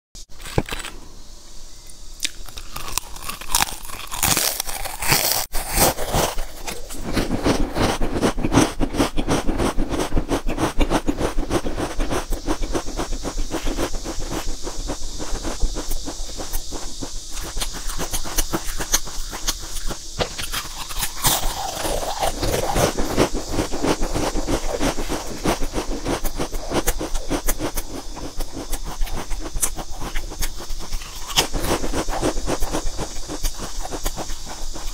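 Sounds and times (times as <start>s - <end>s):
potato chips crunching: 2.2s - 14.5s, 16.7s - 34.9s.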